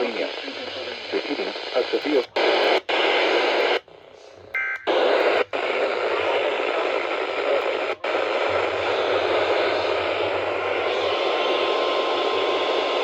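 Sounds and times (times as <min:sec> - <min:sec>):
radio static hiss: 0:00.0 - 0:03.9, 0:04.9 - 0:13.0.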